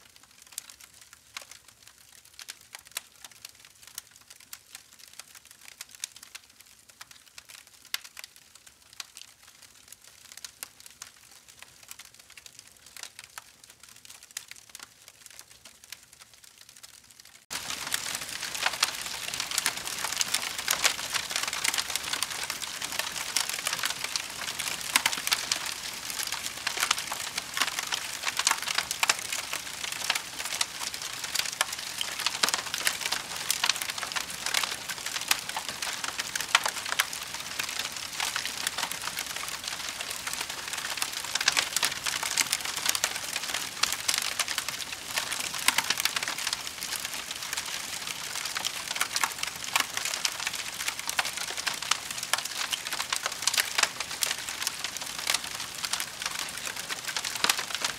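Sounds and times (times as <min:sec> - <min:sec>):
campfire crackling and popping: 0:00.1 - 0:57.9.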